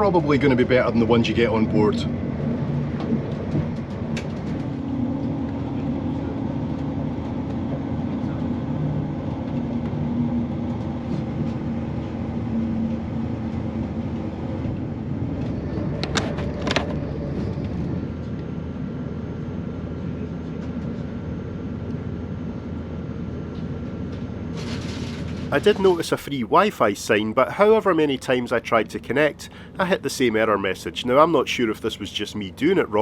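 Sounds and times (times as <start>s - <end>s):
train diesel engine rumble: 0.0s - 33.0s.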